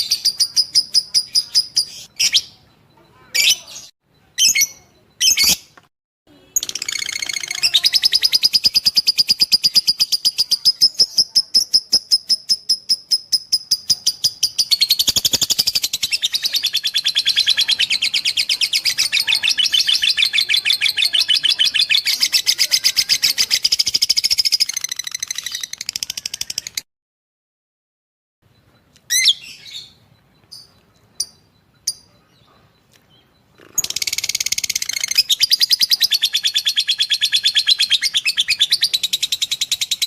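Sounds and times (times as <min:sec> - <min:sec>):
bird chattering song: 0:00.0 - 0:05.8, 0:06.4 - 0:26.8, 0:28.5 - 0:40.0.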